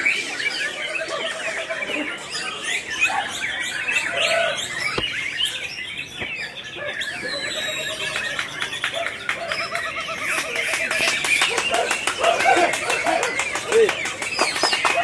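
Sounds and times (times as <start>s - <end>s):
chorus of birds singing: 0.0s - 15.0s.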